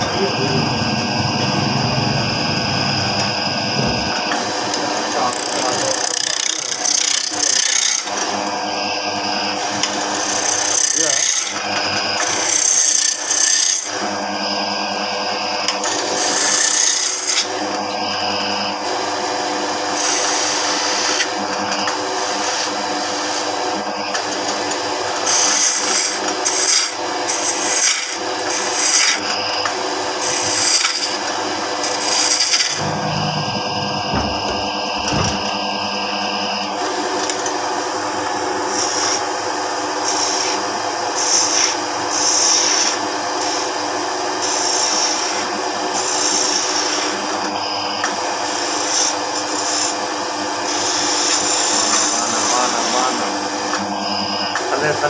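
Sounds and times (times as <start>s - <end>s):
chisel shaving spinning wood: 0.0s - 55.0s
lathe humming: 0.0s - 55.0s.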